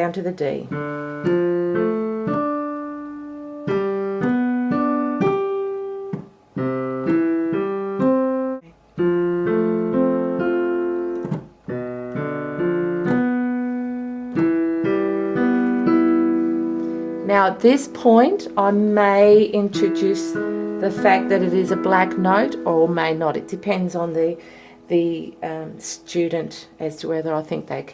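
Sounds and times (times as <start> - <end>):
piano playing broken chords: 0.0 - 27.9.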